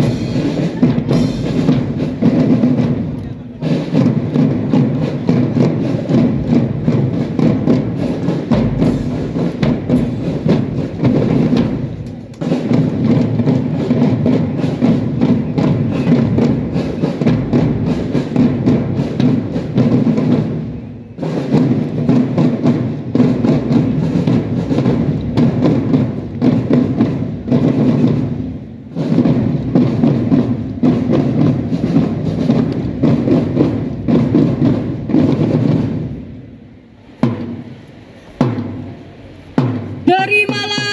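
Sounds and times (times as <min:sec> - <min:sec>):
marching drum band playing: 0:00.0 - 0:40.9.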